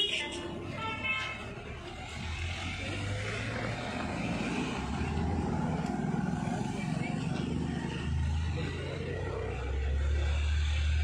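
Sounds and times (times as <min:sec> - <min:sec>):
road traffic passing: 0:00.0 - 0:11.0
low engine hum: 0:01.4 - 0:11.0
motor scooter engine: 0:02.0 - 0:11.0.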